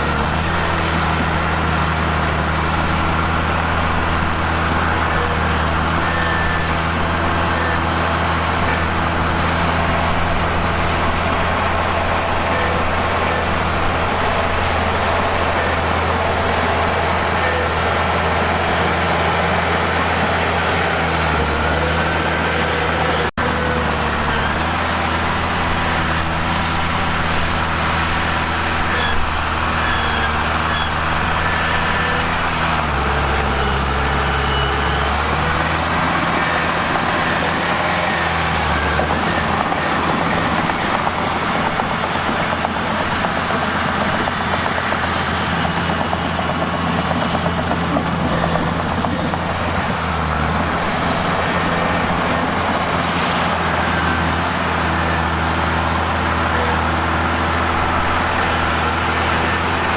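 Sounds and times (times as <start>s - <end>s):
bulldozer diesel engine running: 0.0s - 59.9s
machine pushing rock: 0.0s - 59.9s.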